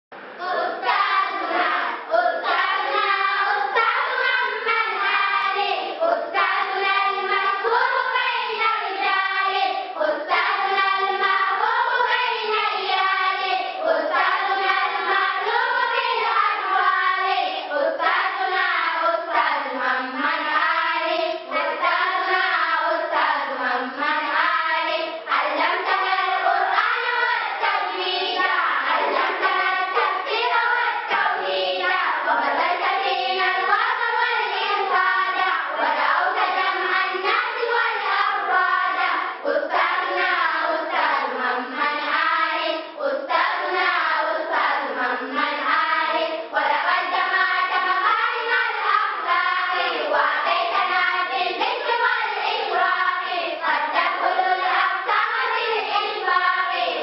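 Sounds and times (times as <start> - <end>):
girls singing together: 0.1 - 57.0.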